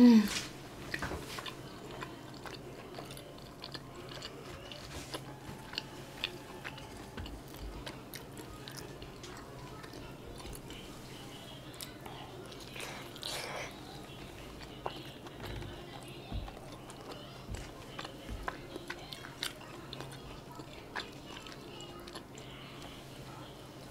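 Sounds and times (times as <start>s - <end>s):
person chewing: 0.3s - 10.9s, 11.7s - 23.1s.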